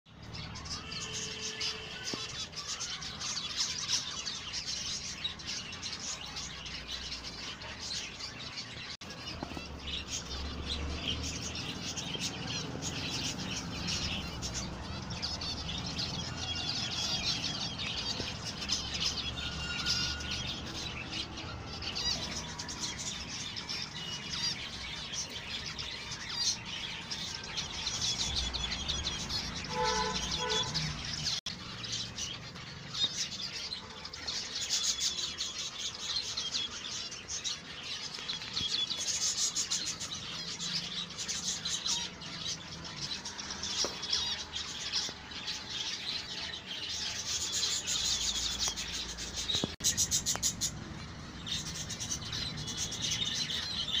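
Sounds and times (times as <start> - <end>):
finches chirping: 0.6 - 54.0.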